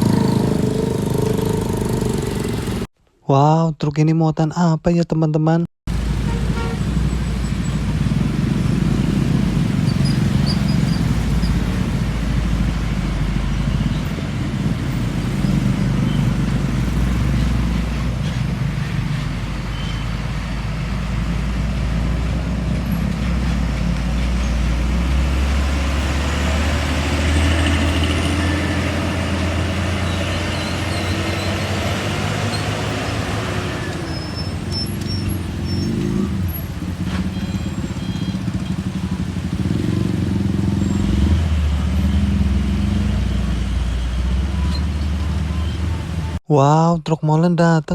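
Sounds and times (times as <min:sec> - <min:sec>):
diesel truck engines rumbling: 0:00.0 - 0:02.9, 0:05.9 - 0:46.9
road noise: 0:00.0 - 0:02.9, 0:05.9 - 0:46.7.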